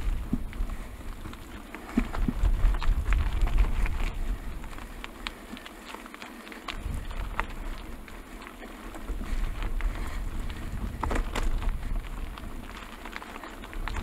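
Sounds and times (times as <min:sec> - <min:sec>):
bike tyres rolling over gravel: 0:00.0 - 0:14.0
ticks from stones and bike: 0:00.0 - 0:14.0
wind rumbling on microphone: 0:00.0 - 0:14.0.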